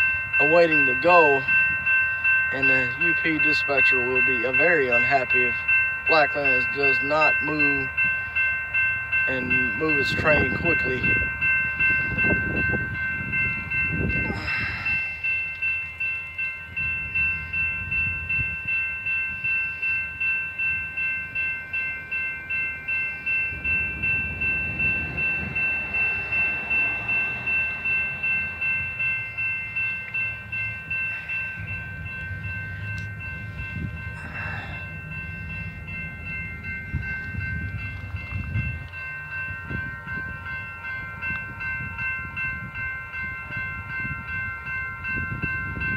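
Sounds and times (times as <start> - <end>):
crossing bell ringing: 0.0 - 45.9
train rumbling: 0.0 - 45.9.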